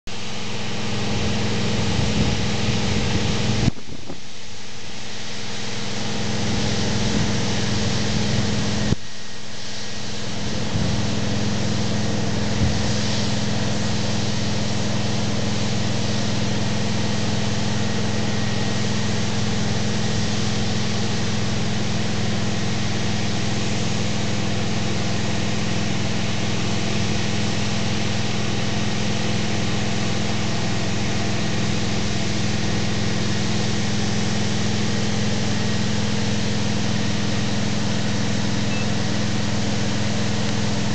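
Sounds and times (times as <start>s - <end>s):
truck engine running: 0.1s - 4.2s, 5.1s - 40.9s
water rushing hiss: 0.2s - 40.9s.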